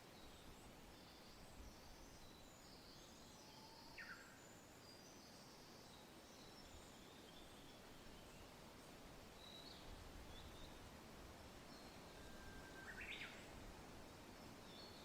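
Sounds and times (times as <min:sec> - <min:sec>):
faint birdsong: 0:00.0 - 0:15.0
soft wind: 0:00.0 - 0:15.0.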